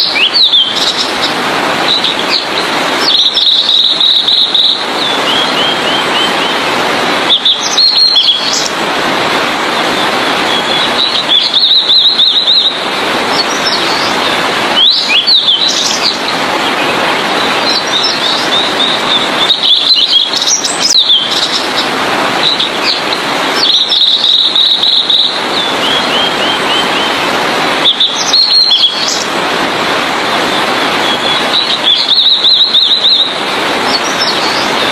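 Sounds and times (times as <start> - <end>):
bird singing trilled phrases: 0.0 - 1.3, 1.9 - 6.6, 7.3 - 8.7, 10.5 - 12.8, 13.4 - 21.8, 22.4 - 27.2, 27.8 - 29.3, 30.6 - 34.8.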